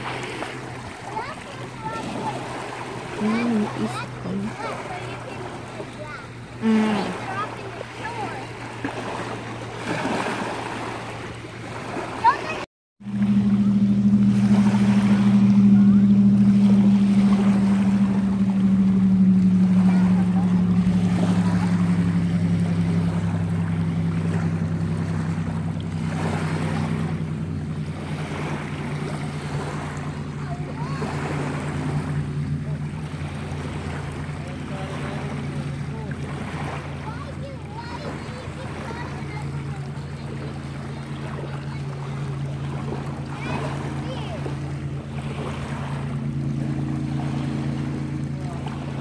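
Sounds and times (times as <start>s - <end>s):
motorboat engine droning: 0.0s - 49.0s
water noise: 0.0s - 49.0s
wind: 0.0s - 49.0s.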